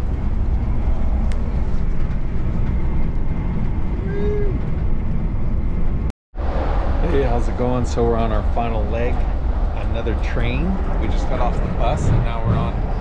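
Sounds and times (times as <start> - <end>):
coach engine and tyres rumbling: 0.0 - 13.0.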